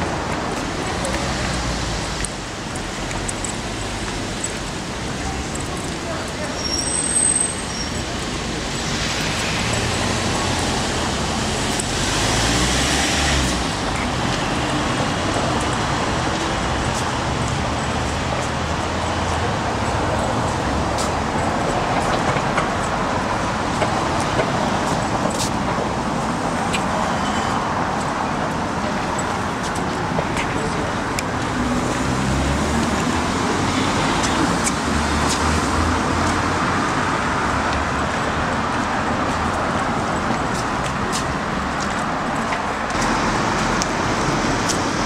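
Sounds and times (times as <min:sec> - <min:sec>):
steady hum of cars: 0:00.0 - 0:45.0.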